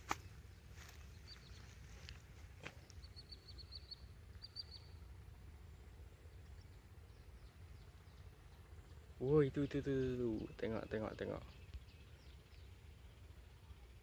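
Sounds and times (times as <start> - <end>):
small bird chirping: 0.0 - 5.2, 6.2 - 14.0.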